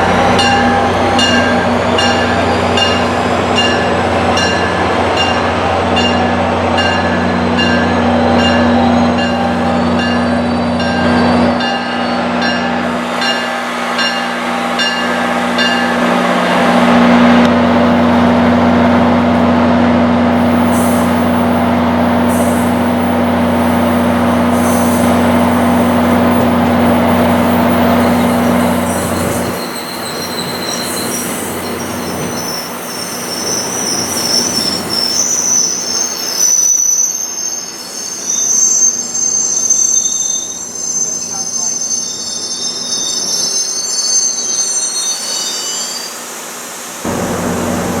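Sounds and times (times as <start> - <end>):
train wheels squealing on rails: 0.0 - 18.4, 19.0 - 47.1
train engine drone and rumble: 0.0 - 48.0.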